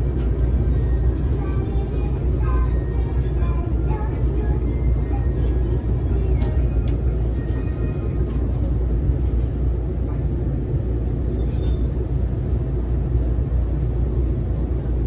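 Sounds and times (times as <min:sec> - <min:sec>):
monorail car low rumble: 0:00.0 - 0:15.0.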